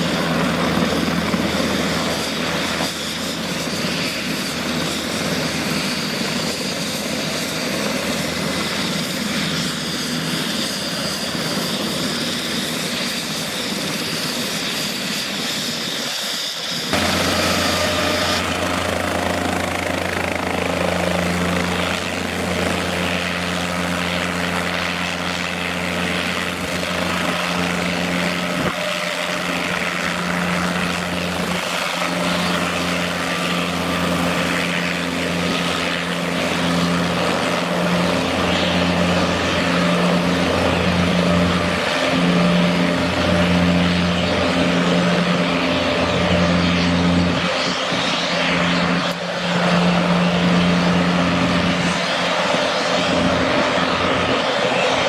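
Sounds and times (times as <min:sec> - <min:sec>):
helicopter rotor and engine hum: 0:00.0 - 0:55.0.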